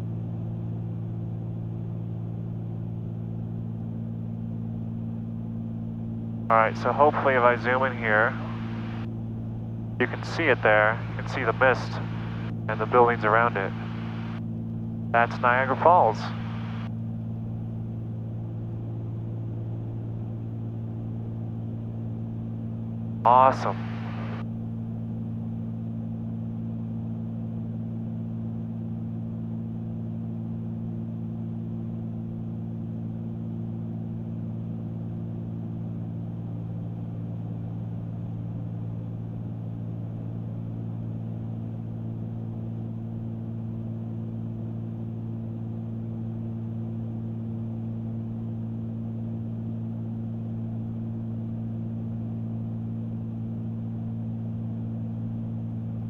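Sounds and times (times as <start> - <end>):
aircraft engines droning in cabin: 0.0 - 56.0.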